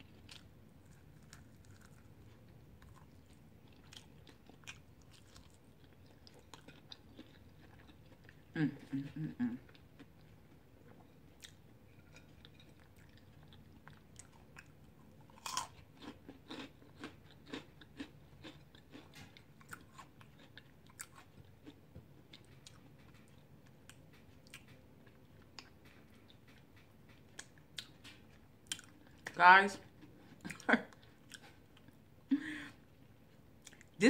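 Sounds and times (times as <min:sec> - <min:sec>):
person chewing: 0:00.0 - 0:08.9, 0:09.6 - 0:29.3, 0:29.9 - 0:32.1, 0:33.0 - 0:34.0.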